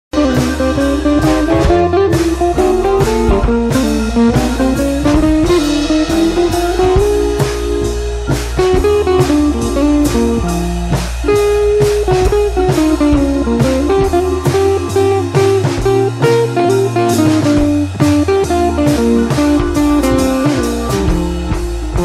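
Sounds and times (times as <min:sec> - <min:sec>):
blues-rock electric guitar: 0:00.1 - 0:22.0
drum kit beat: 0:00.1 - 0:22.0.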